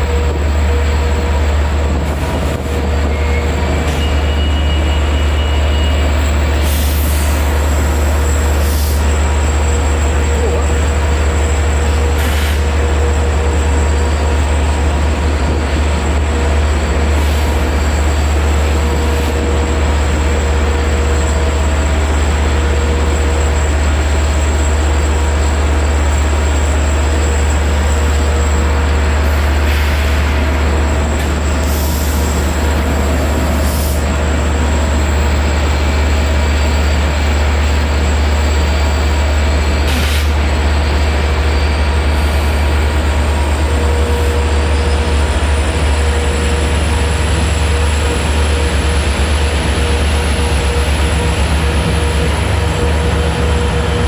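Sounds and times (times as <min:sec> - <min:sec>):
train rumbling by: 0:00.0 - 0:54.0.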